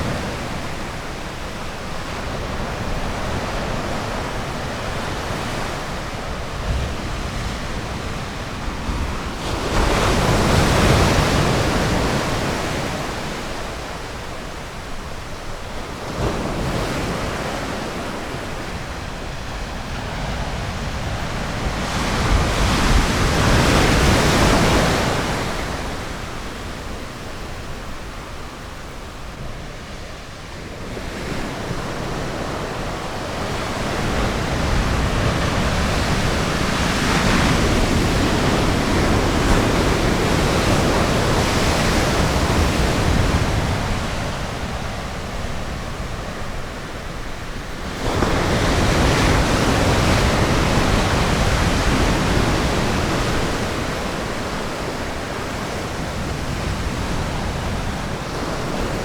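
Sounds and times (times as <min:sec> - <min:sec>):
ocean surf on a beach: 0:00.0 - 0:59.0.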